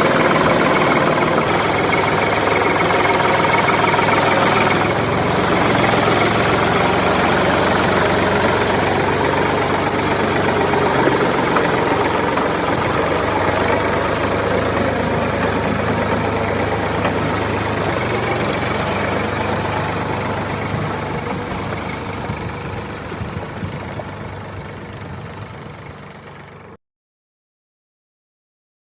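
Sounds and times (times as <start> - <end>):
tractor engine running: 0.0 - 26.8.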